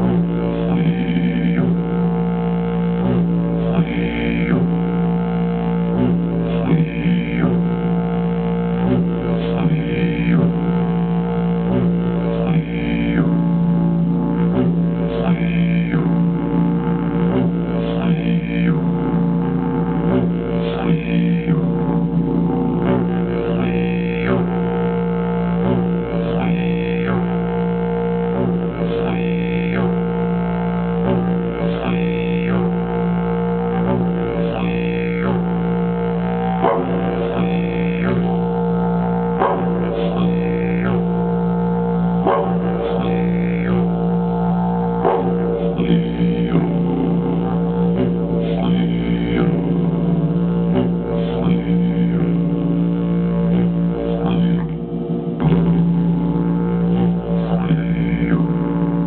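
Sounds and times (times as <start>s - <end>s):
didgeridoo drone: 0.0s - 59.0s.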